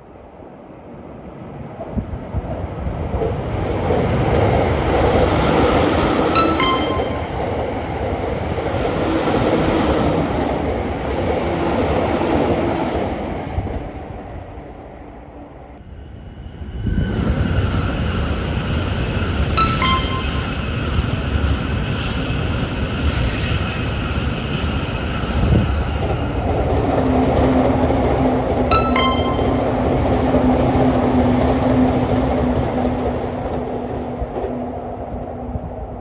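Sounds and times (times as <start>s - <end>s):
train rushing past: 1.1s - 36.0s.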